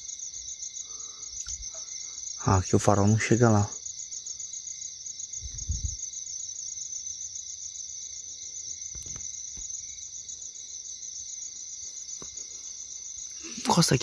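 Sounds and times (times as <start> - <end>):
crickets and insects trilling: 0.0 - 14.0.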